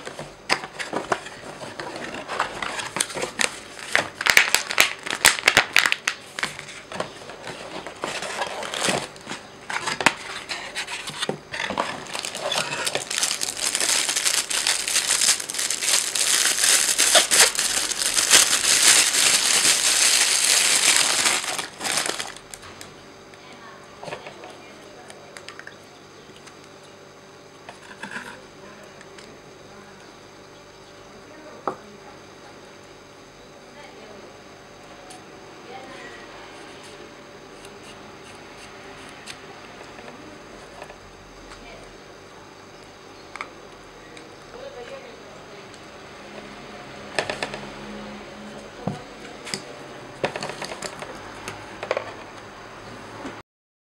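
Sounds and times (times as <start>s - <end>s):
steady background hum: 0.0s - 53.4s.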